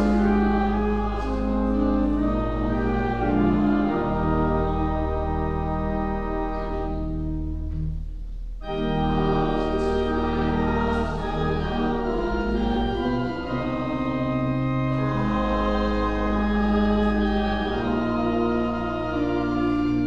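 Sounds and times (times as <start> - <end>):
church organ chords: 0.0 - 20.0.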